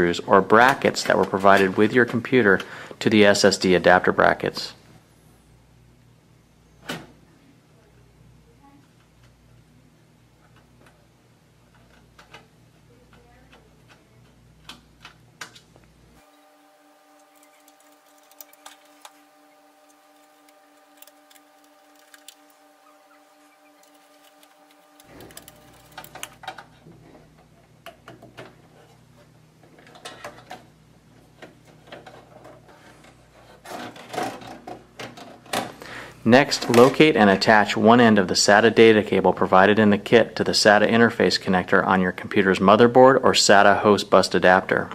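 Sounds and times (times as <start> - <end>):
faint low hum: 0.0 - 44.9.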